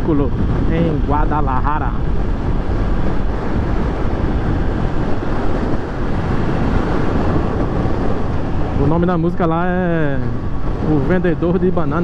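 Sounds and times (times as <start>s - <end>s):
motorcycle engine hum: 0.0s - 12.0s
wind rushing over microphone: 0.0s - 12.0s.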